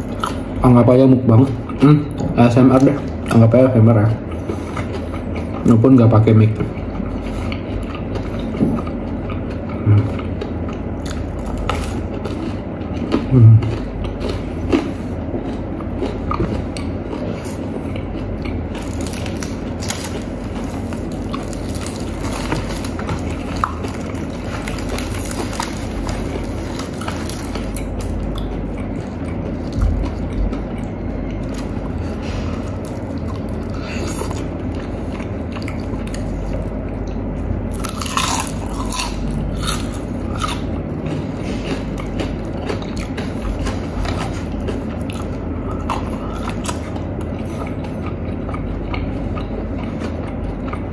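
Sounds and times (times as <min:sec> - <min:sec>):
low background hum: 0:00.0 - 0:50.9
fried chicken crunching: 0:01.5 - 0:36.9, 0:37.6 - 0:50.9.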